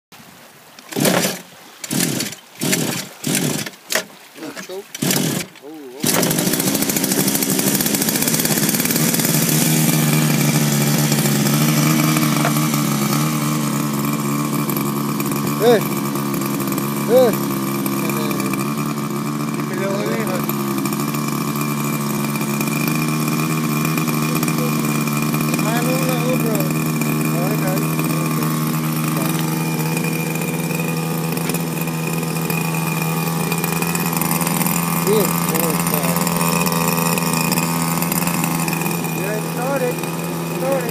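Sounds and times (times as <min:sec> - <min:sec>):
small two-stroke engine running: 0:00.8 - 0:40.9.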